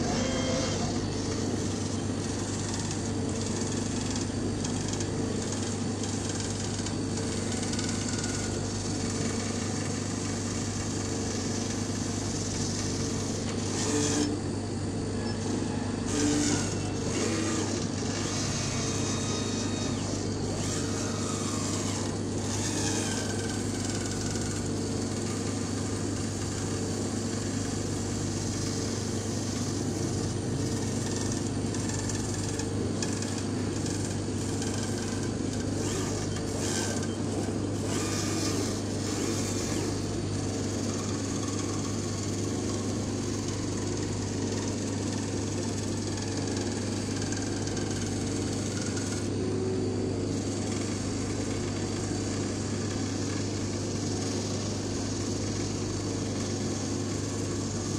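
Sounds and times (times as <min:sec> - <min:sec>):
laser cutter humming: 0:00.0 - 0:57.9.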